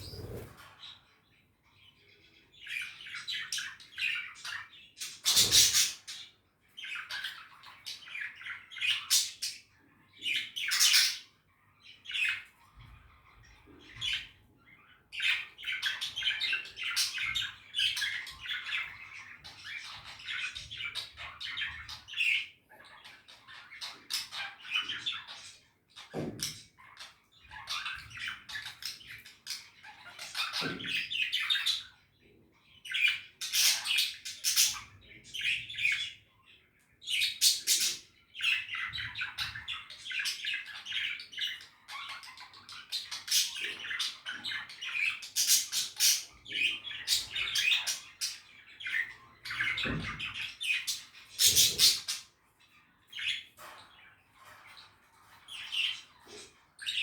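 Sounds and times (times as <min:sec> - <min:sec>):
budgies chattering and warbling: 0:00.0 - 0:57.0.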